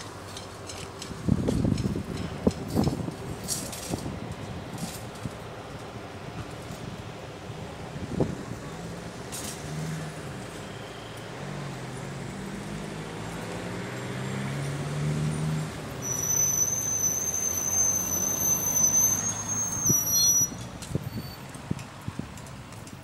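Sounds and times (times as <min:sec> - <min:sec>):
street traffic: 0:00.0 - 0:23.0
vehicle running: 0:00.0 - 0:23.0.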